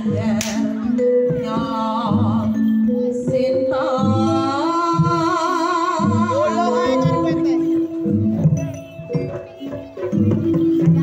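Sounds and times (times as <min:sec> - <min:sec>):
gamelan metallophones: 0:00.0 - 0:11.0.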